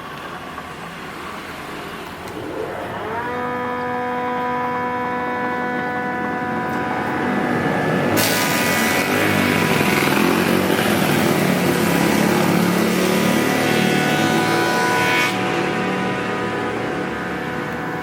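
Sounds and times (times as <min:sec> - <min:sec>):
wood planer humming: 0:01.7 - 0:18.0
wood planing noise: 0:02.2 - 0:18.0.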